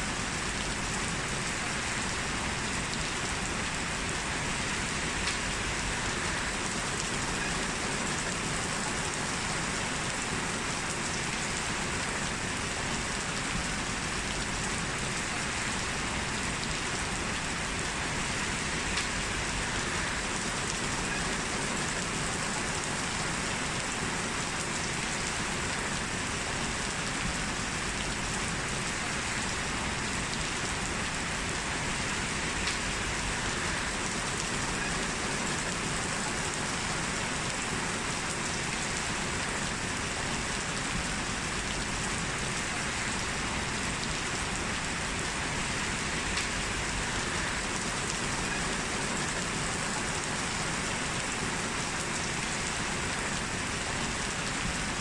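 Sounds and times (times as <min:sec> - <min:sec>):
heavy rain pattering: 0:00.1 - 0:55.0.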